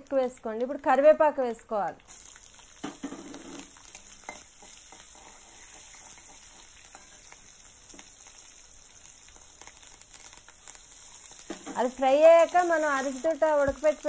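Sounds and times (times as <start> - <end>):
oil sizzling in a wok: 0.1 - 14.0.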